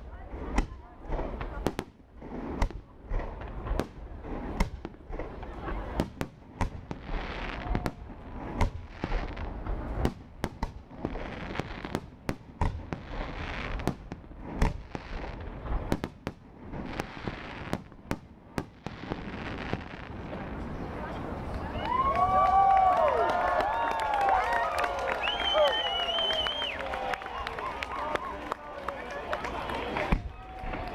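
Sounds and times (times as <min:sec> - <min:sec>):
fireworks bursting with sharp bangs: 0:00.0 - 0:22.0, 0:25.2 - 0:30.9.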